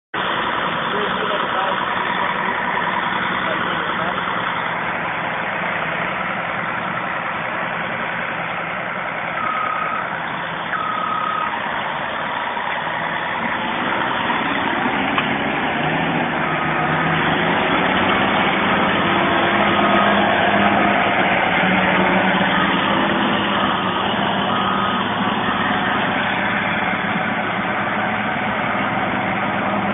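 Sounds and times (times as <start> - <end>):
tractor diesel engine running: 0.1 - 29.9.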